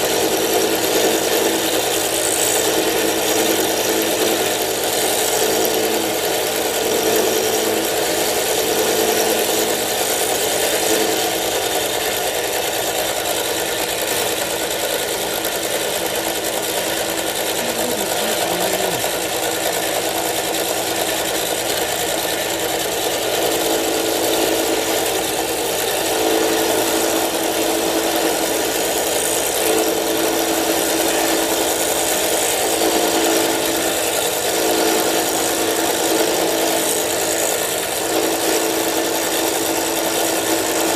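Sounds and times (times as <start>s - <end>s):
milling machine cutting metal: 0.0s - 40.9s.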